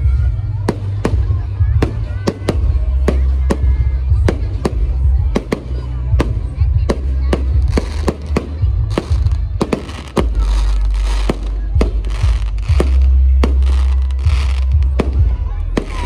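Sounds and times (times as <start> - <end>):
fireworks crackling: 0.0 - 16.0
fireworks bangs: 0.1 - 16.0.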